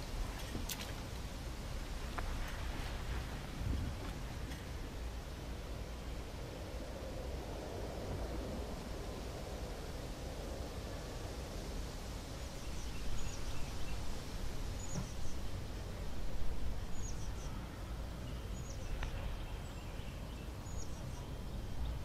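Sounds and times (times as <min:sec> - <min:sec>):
low rumble and hiss: 0:00.0 - 0:22.0.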